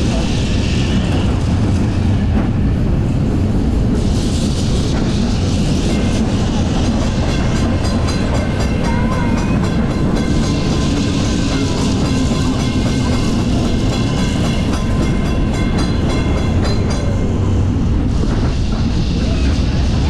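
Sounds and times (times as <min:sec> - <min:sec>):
tram rumbling on rails: 0:00.0 - 0:20.0.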